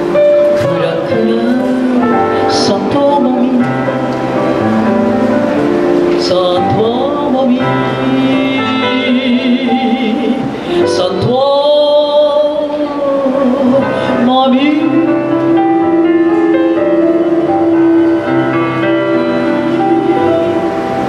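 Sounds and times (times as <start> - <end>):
woman singing into microphone: 0.0 - 4.8, 6.0 - 21.0
instrumental accompaniment: 0.0 - 21.0.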